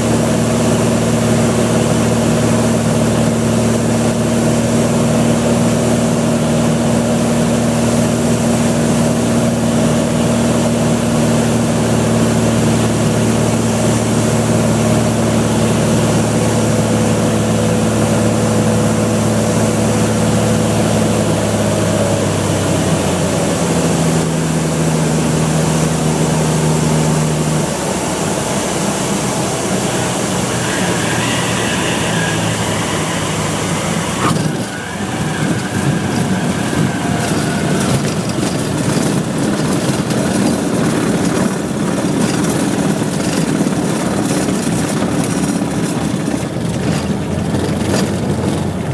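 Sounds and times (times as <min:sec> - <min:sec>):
propeller plane engine running: 0:00.0 - 0:48.9.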